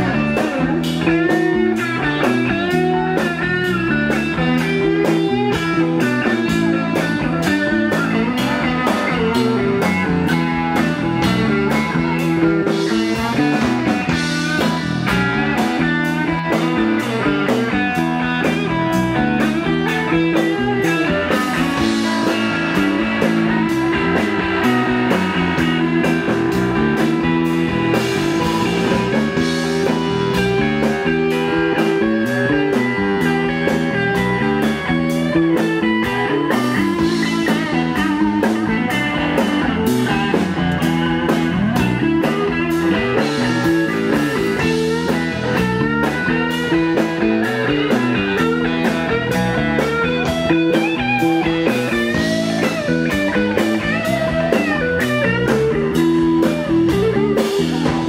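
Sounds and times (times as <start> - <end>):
bass and drum groove: 0.0 - 58.0
electric lead guitar: 0.0 - 58.0.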